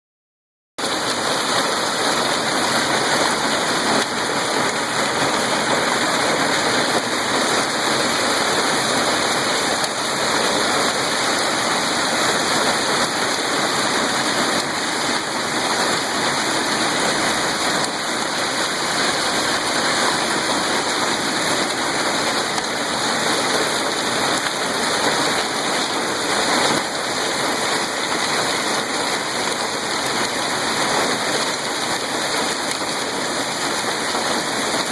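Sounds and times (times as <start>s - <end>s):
heavy rain pouring: 0.8s - 34.9s.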